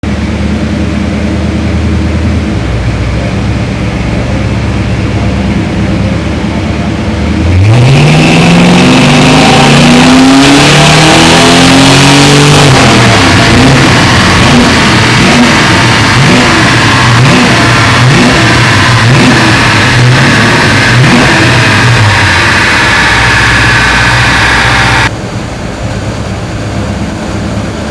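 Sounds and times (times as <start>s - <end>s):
car engine revving on a dyno: 0.0s - 27.9s.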